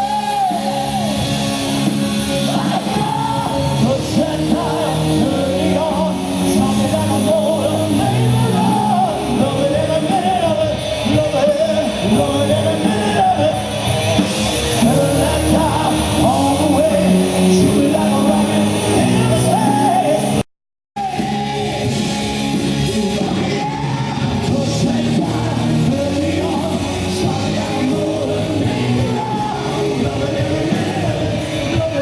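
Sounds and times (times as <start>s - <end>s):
rock music with singing: 0.0s - 32.0s.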